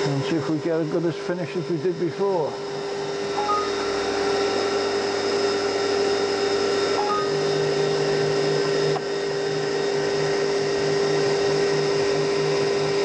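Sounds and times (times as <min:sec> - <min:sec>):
spindle motor whine: 0:00.0 - 0:13.0.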